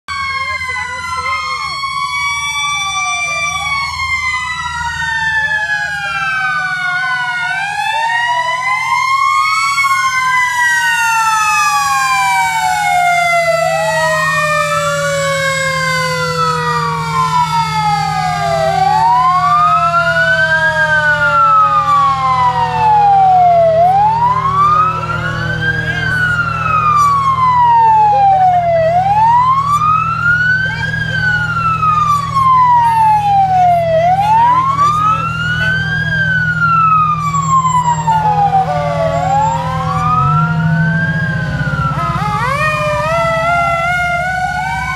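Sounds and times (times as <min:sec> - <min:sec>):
fire engine wail siren: 0:00.0 - 0:44.9
second siren tone sliding downward: 0:00.1 - 0:44.9
truck engine running: 0:00.1 - 0:44.9.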